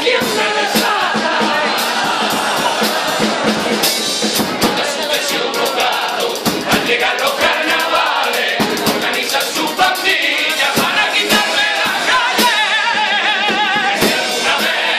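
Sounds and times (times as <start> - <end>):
crowd: 0.0 - 14.9
drums beating: 0.0 - 14.9
group singing in chorus: 0.0 - 14.9.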